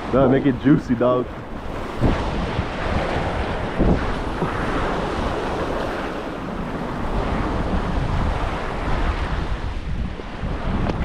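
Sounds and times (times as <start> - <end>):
waves against a jetty: 0.0 - 11.0
wind buffeting microphone: 0.0 - 11.0.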